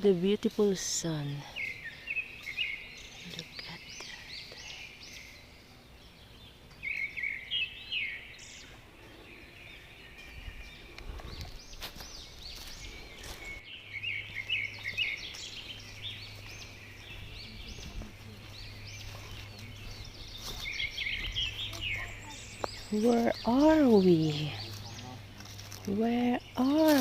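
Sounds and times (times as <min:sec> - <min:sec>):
small birds chirping and singing: 0:00.0 - 0:27.0.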